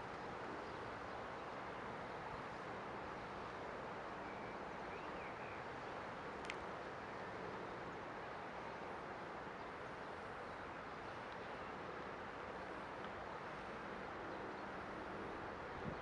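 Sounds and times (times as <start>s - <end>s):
outdoor hiss and rumble: 0.0s - 16.0s.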